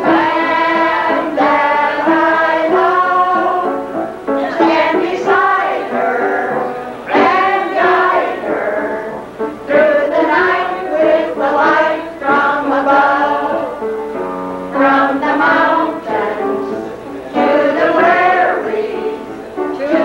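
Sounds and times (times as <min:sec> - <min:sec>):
women singing together: 0:00.0 - 0:14.0, 0:14.7 - 0:20.0
kitchen band accompaniment: 0:00.0 - 0:20.0.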